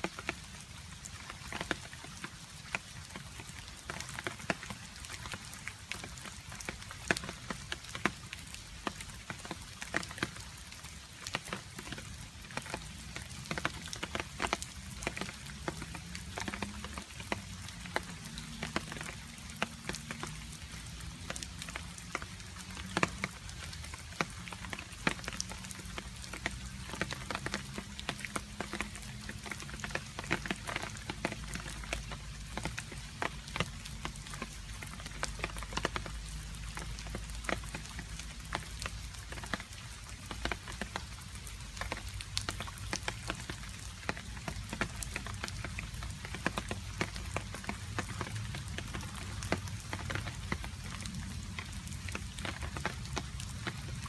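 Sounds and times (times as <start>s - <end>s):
steady hiss of rain: 0.0s - 54.0s.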